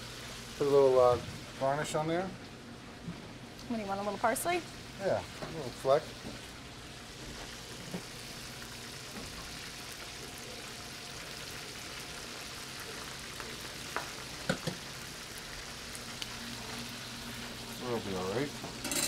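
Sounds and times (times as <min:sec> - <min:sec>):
fish frying in oil: 0:00.0 - 0:02.2, 0:03.7 - 0:19.0.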